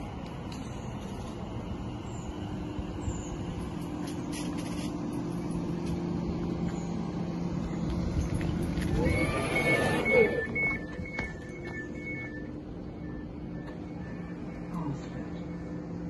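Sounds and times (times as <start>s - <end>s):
train electric hum: 0.0s - 16.0s.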